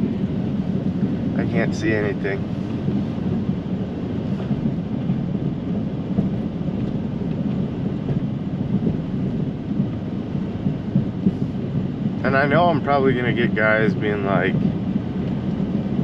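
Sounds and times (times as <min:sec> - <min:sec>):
snow plow truck rumbling: 0:00.0 - 0:16.0.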